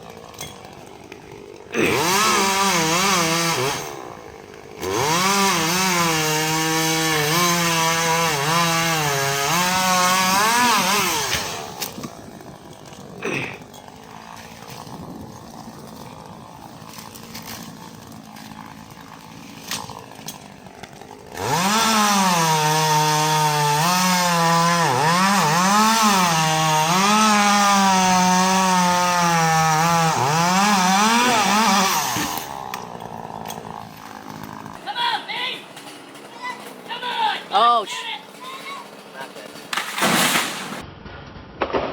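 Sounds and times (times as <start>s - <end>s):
chainsaw cutting wood: 0.0s - 40.8s.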